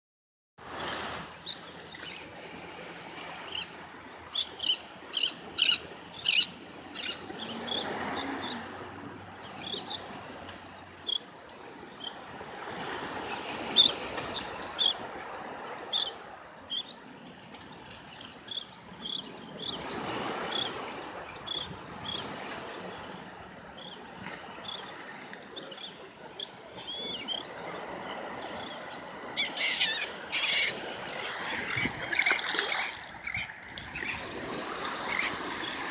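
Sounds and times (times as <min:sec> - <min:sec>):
small waves washing: 0:00.6 - 0:35.9
birds chirping: 0:03.4 - 0:11.4, 0:12.0 - 0:12.3, 0:13.3 - 0:34.3, 0:35.0 - 0:35.9.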